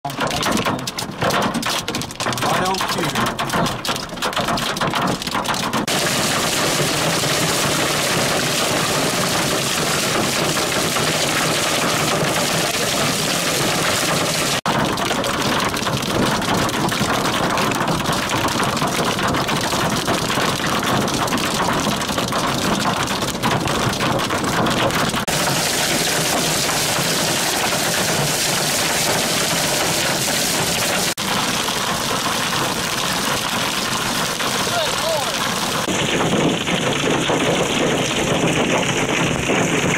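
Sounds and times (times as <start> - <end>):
hail and rain pelting vehicle: 0.0 - 39.9.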